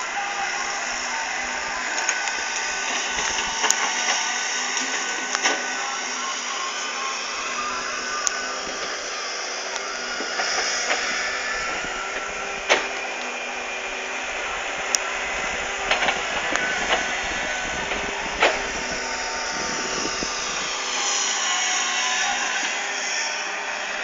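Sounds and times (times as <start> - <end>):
excavator engine hum: 0.0 - 24.0.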